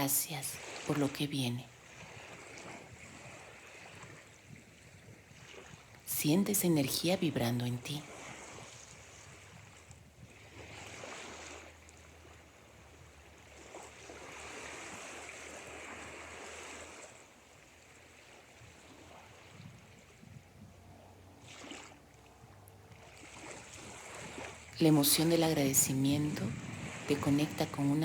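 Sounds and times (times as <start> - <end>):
soft ocean waves: 0.0 - 28.0.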